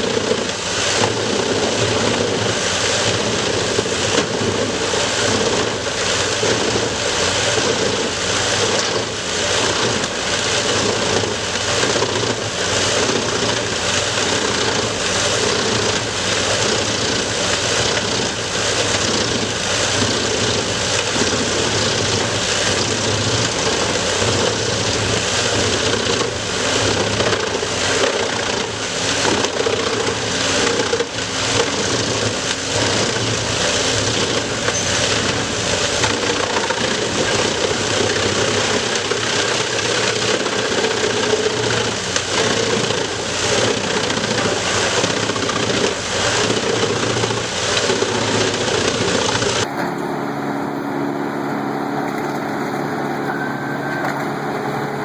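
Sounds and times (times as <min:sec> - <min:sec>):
wood chipper running: 0:00.0 - 0:55.0.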